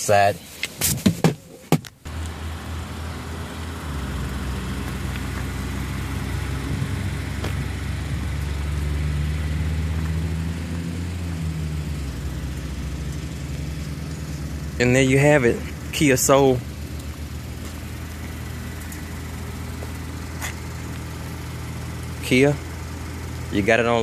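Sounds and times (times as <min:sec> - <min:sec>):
car engine idling: 0:02.0 - 0:24.0.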